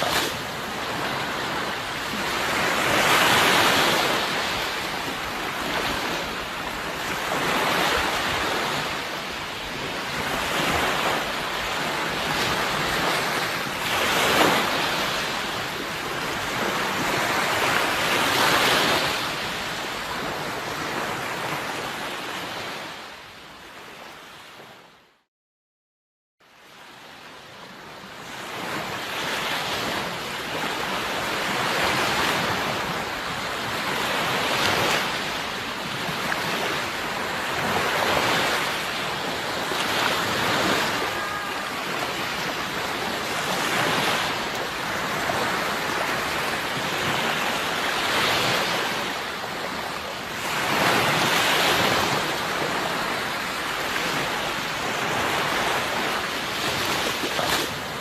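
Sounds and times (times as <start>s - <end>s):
sea waves breaking: 0.0s - 24.8s, 26.6s - 58.0s.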